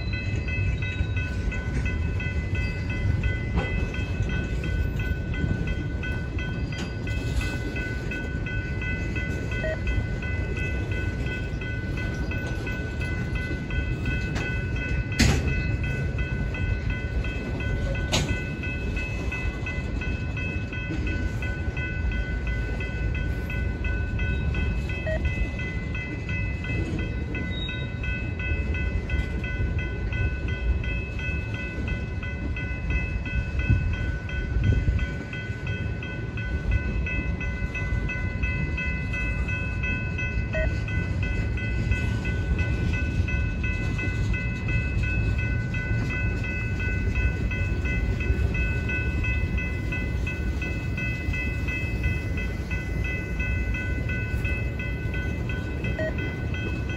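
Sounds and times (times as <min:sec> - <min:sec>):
freight train wheels rumbling: 0:00.0 - 0:56.9
high-pitched steady tones: 0:00.0 - 0:56.9.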